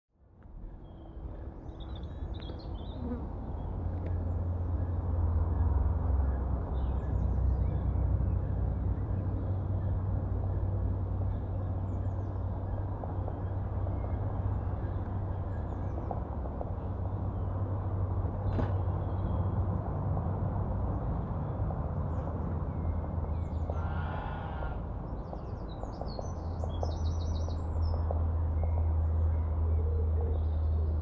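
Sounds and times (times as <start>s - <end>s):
steady low rumble: 0.2s - 31.0s.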